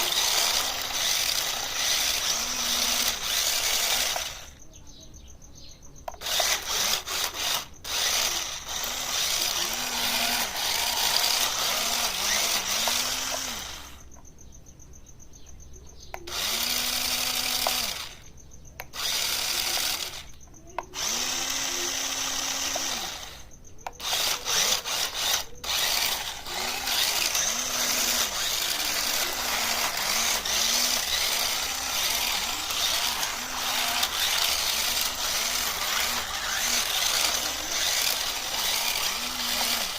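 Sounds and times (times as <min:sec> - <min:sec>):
toy car electric motors whirring: 0:00.0 - 0:04.7, 0:06.0 - 0:14.2, 0:16.1 - 0:39.9.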